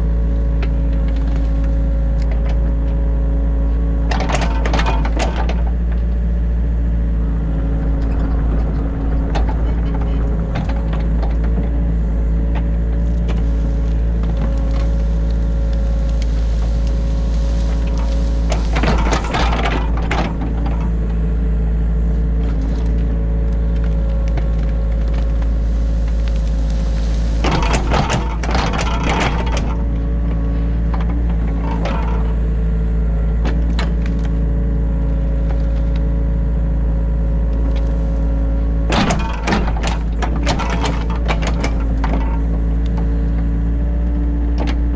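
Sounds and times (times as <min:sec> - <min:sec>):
excavator diesel engine running: 0:00.0 - 0:44.9
rough digging noise: 0:00.0 - 0:44.9.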